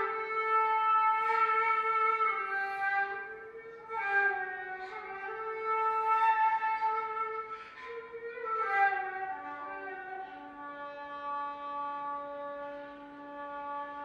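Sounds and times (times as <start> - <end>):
bamboo flute long held notes: 0.0 - 14.0.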